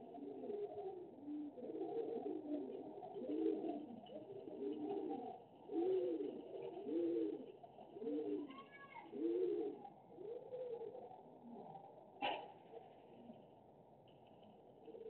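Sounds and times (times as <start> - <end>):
pigeon cooing: 0.0 - 13.5, 14.7 - 15.0.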